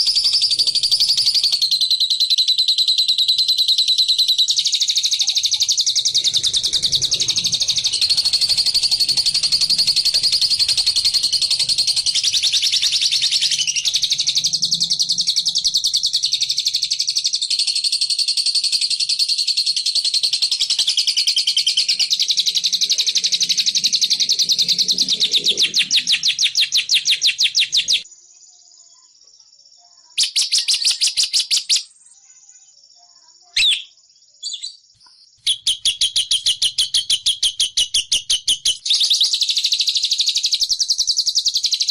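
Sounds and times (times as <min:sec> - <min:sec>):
bird chattering trill: 0:00.0 - 0:17.9, 0:18.5 - 0:28.1, 0:30.2 - 0:32.0, 0:33.6 - 0:41.9.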